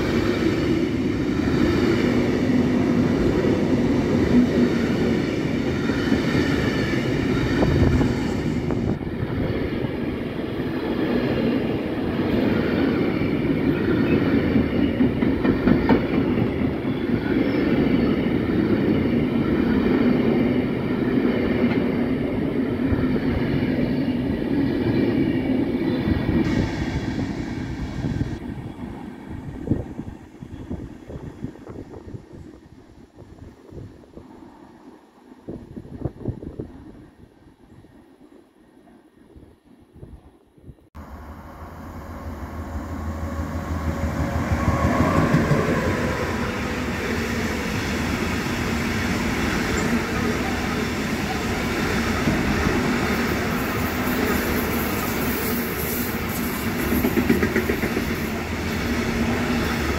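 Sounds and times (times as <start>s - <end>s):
train wheels rumbling on track: 0.0s - 34.4s, 41.0s - 59.9s.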